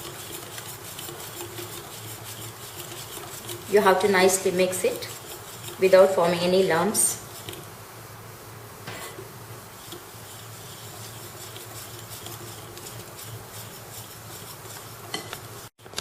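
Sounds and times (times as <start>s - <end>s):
utensil stirring batter in bowl: 0.0s - 7.8s, 9.6s - 15.8s.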